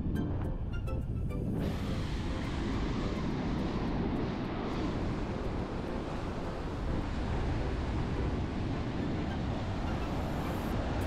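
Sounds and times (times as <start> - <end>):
wind blowing on microphone: 0.0 - 11.0
surf rushing on beach: 1.5 - 11.0.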